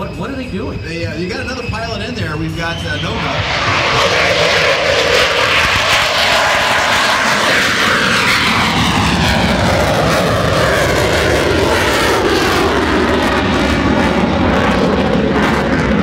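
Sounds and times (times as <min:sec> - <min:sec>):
jet aircraft taking off: 0:00.0 - 0:16.0.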